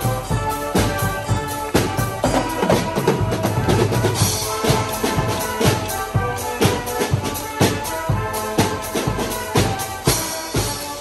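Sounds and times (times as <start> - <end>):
drum strokes: 0.0 - 11.0
reed horns holding chords: 0.0 - 11.0.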